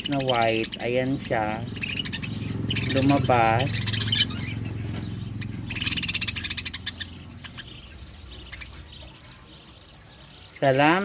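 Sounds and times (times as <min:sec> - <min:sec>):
budgerigars chattering: 0:00.0 - 0:11.0
low steady hum: 0:00.0 - 0:11.0.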